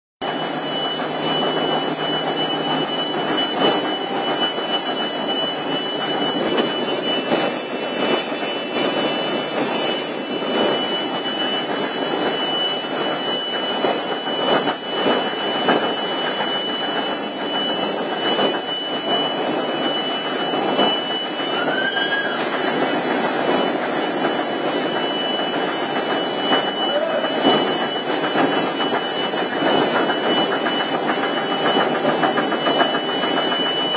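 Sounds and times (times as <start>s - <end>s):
high whine: 0.2s - 33.9s
machinery clatter: 0.2s - 33.9s
production line machinery running: 0.2s - 33.9s.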